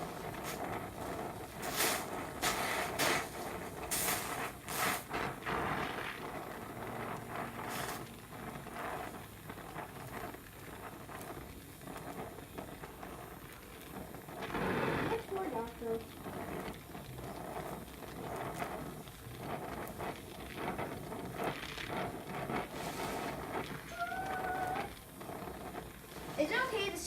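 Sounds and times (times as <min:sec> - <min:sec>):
torch flame hissing: 0:00.0 - 0:27.0.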